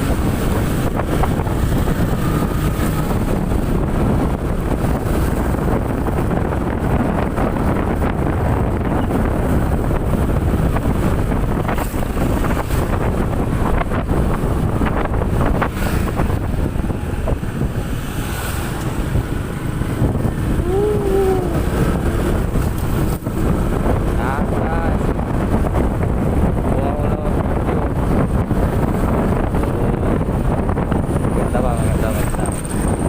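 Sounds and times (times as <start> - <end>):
motorcycle road and engine noise: 0.0 - 33.0
wind buffeting microphone: 0.0 - 33.0.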